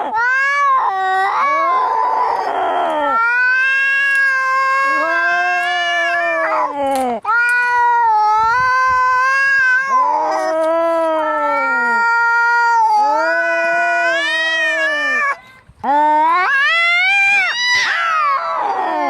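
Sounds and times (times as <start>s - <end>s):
cats yowling in a fight: 0.0s - 19.0s.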